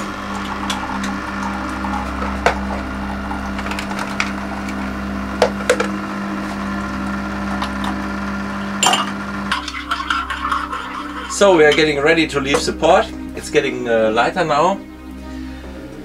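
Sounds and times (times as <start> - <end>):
boat engine idling: 0.0 - 14.4.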